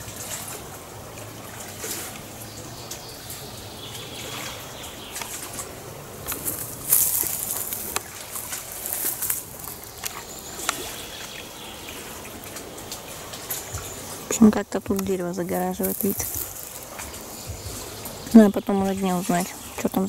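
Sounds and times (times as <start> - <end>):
leaves rustling: 0.0 - 20.0
small waves lapping: 0.0 - 20.0.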